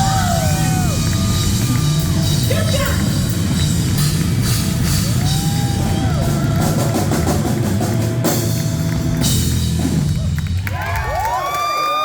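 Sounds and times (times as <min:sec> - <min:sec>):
live rock band playing: 0:00.0 - 0:10.8.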